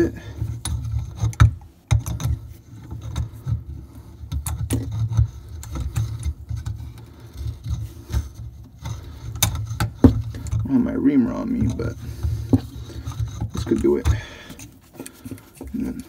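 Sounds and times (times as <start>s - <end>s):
hand tool scraping copper pipe: 0.0s - 16.0s.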